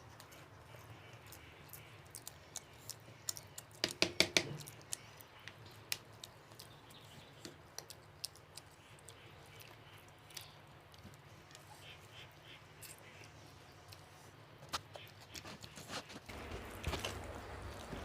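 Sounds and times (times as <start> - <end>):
mouth clicks and smacks eating: 0.0 - 16.2.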